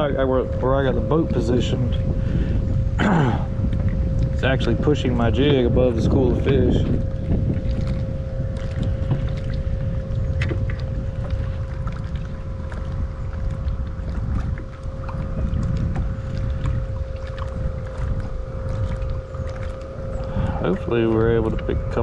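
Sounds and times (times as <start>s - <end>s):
electric trolling motor whining: 0.0s - 22.0s
wind buffeting microphone: 0.0s - 22.0s.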